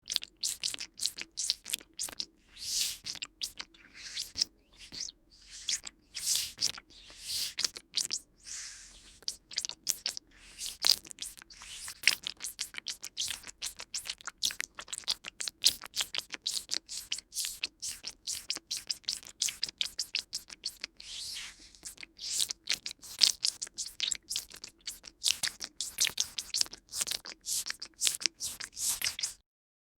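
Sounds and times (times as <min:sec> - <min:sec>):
wet chewing close up: 0:00.0 - 0:29.4.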